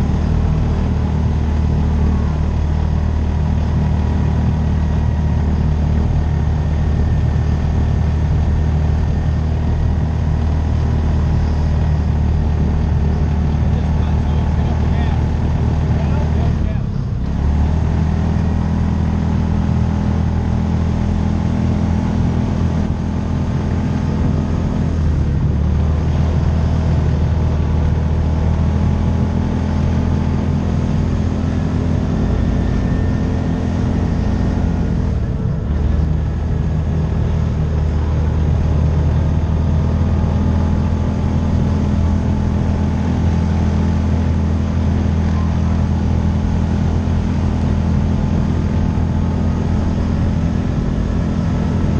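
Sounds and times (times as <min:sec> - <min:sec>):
utility vehicle engine running: 0:00.0 - 0:51.9.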